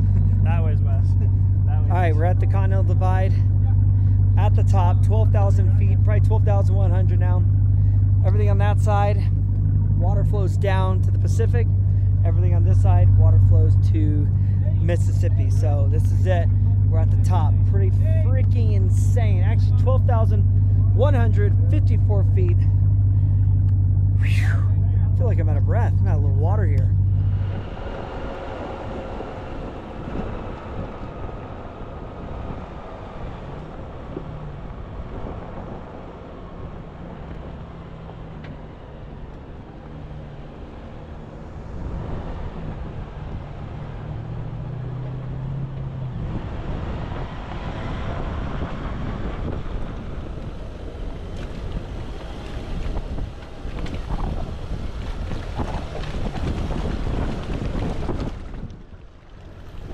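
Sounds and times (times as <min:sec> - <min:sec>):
low steady hum: 0:00.0 - 0:59.9
wind buffeting microphone: 0:00.0 - 0:59.9.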